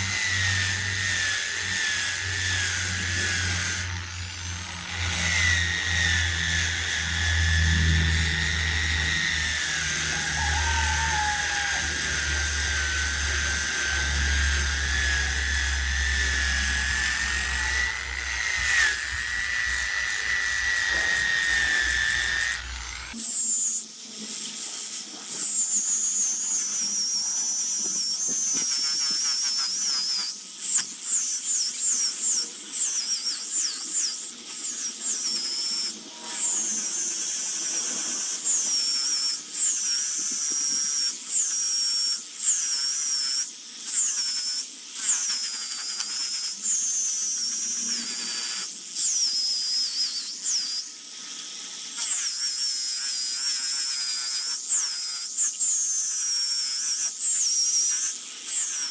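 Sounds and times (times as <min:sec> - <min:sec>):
rotary tool whining cutting wood: 0:00.0 - 0:23.8, 0:25.4 - 0:58.9.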